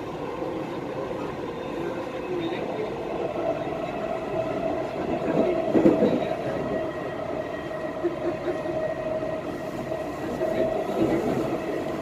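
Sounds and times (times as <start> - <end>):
train wheels rumbling on rails: 0.0 - 12.0
train whine: 0.0 - 12.0.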